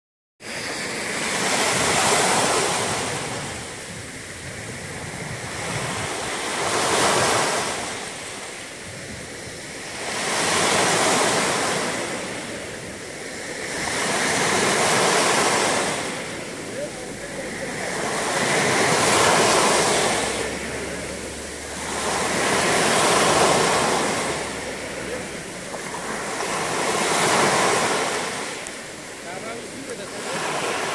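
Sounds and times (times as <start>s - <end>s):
waves breaking on stony shore: 0.4s - 30.9s.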